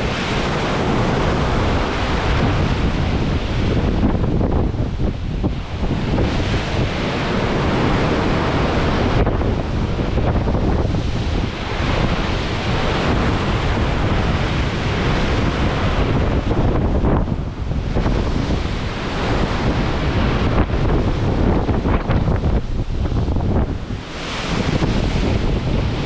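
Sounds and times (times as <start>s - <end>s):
waves breaking along ship: 0.0s - 26.0s
wind buffeting microphone: 0.0s - 26.0s.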